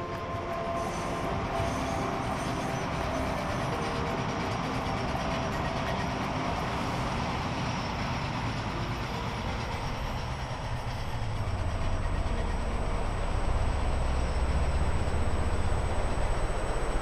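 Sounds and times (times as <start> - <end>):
freight train passing: 0.0 - 17.0
low rumble of rolling wagons: 0.0 - 17.0.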